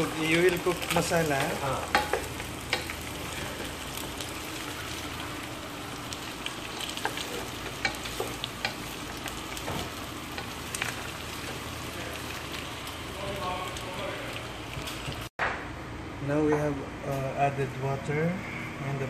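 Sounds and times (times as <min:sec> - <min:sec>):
food sizzling in a frying pan: 0:00.0 - 0:15.3.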